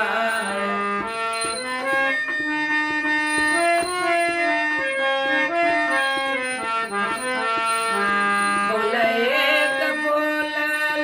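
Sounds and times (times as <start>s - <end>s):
reed keyboard melody: 0.0s - 11.0s.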